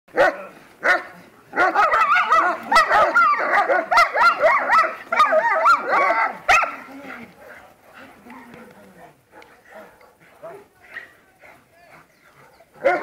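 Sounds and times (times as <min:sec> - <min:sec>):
dogs barking and yipping: 0:00.1 - 0:13.0.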